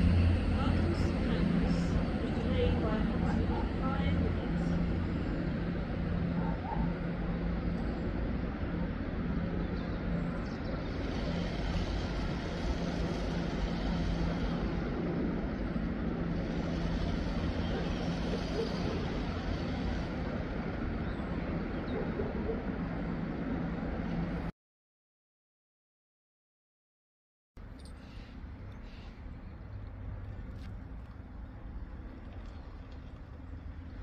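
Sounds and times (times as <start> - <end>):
distant diesel train drone: 0.0 - 24.5, 27.6 - 34.0.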